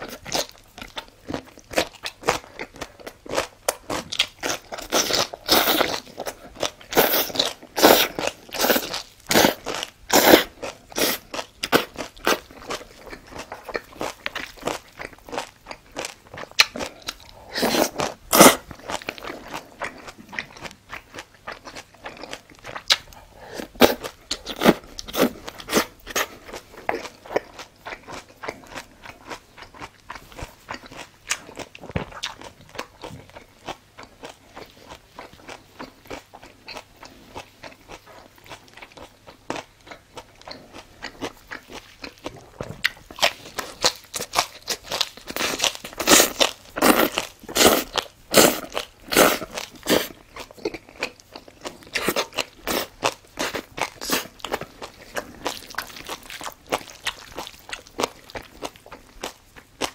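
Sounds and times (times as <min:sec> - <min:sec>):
wet chewing of noodles: 0:00.0 - 0:59.9.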